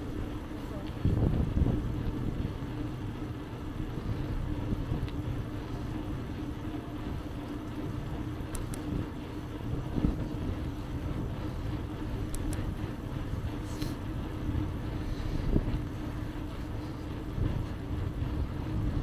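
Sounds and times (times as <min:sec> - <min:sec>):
steady hum: 0:00.0 - 0:19.0
wind and rolling tyres rumble: 0:00.0 - 0:19.0.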